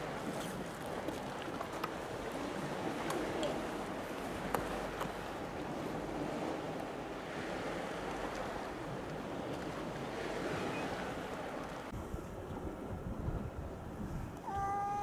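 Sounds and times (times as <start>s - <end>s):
sea waves on shore: 0.0s - 15.0s.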